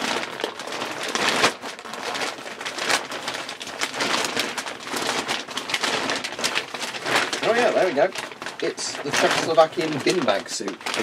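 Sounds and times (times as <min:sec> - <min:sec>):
plastic sheeting crinkling: 0:00.0 - 0:11.0.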